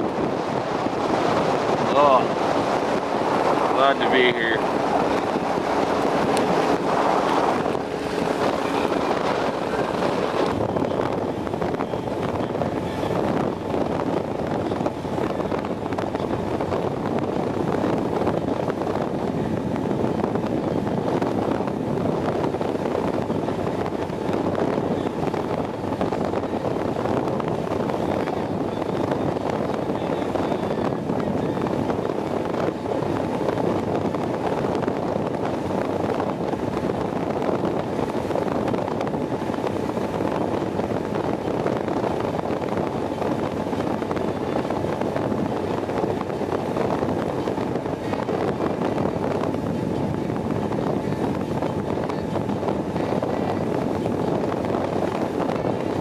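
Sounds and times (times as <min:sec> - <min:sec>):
boat engine drone: 0:00.0 - 0:56.0
wind and water rushing past hull: 0:00.0 - 0:56.0.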